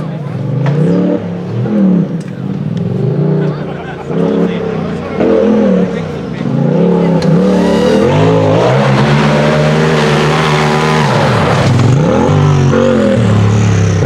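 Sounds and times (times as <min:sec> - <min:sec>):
buggy engine revving: 0:00.0 - 0:14.0.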